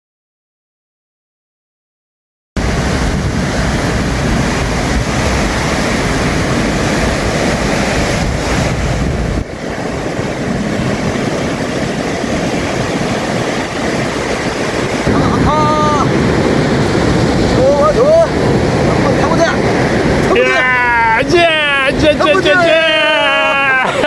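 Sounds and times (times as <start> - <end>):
ocean surf breaking: 2.6 - 24.0
wind buffeting microphone: 2.6 - 24.0.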